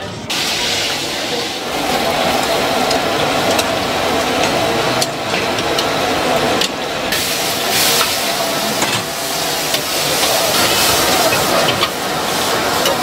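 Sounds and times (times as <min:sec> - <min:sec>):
gas burner rushing: 0:00.3 - 0:13.0
hot oil hissing and sizzling: 0:00.3 - 0:13.0.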